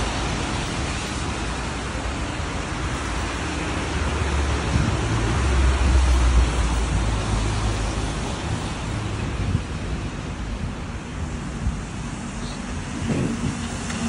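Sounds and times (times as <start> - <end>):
street traffic hiss and rumble: 0.0 - 14.0.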